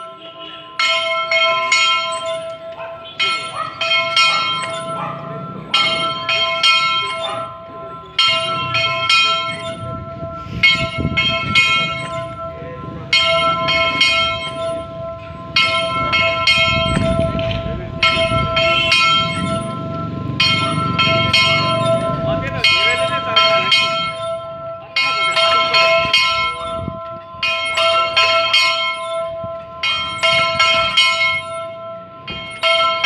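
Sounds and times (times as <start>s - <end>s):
church bells ringing: 0.0s - 33.0s.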